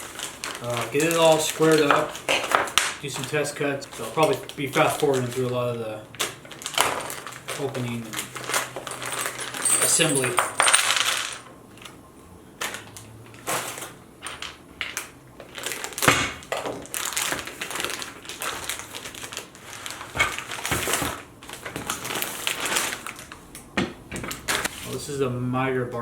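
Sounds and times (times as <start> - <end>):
packaging crinkling and rustling: 0.0 - 12.0, 12.6 - 25.0.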